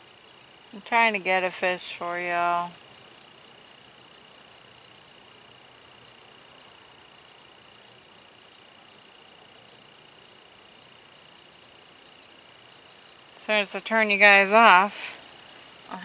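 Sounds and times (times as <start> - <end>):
insects trilling: 0.0 - 16.0
soft even hiss: 0.0 - 16.0.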